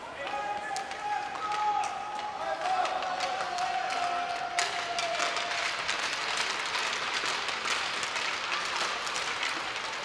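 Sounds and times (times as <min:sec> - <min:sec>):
spectators applauding: 0:00.3 - 0:10.0.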